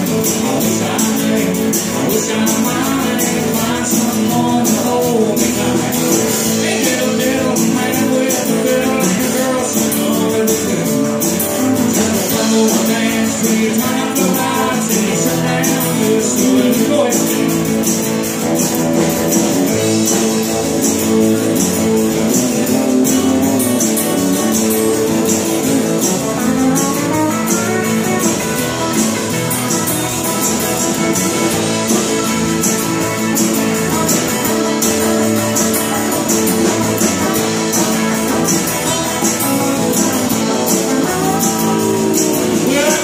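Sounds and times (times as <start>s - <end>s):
acoustic and electric guitars: 0.0s - 43.0s
bass: 0.0s - 43.0s
drums: 0.0s - 43.0s
sliding guitar line: 0.0s - 43.0s
tambourine beat: 0.0s - 43.0s.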